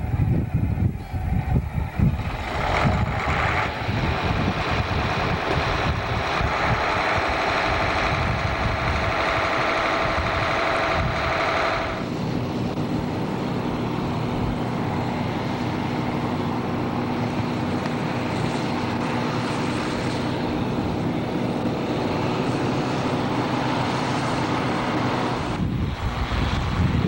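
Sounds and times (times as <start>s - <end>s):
farm machinery engine running: 0.0s - 27.0s.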